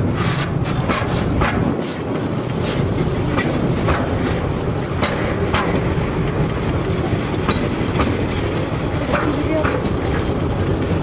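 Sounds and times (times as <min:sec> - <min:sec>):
train wheels rumbling on rails: 0:00.0 - 0:11.0
wheels clacking over rail joints: 0:00.0 - 0:11.0.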